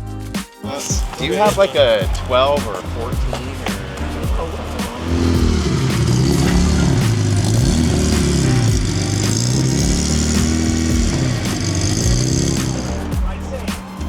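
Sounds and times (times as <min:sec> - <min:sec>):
car engine revving: 0:00.7 - 0:14.0.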